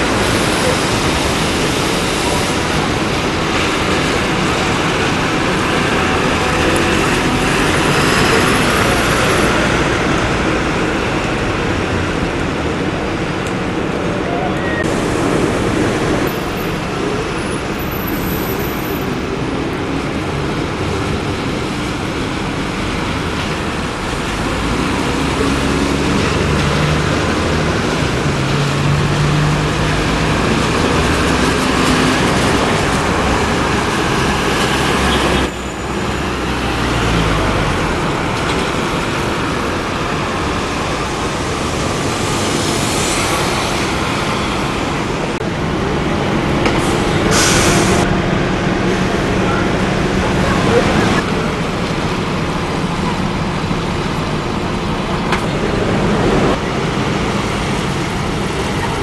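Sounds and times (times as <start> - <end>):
city street traffic: 0.0 - 59.0.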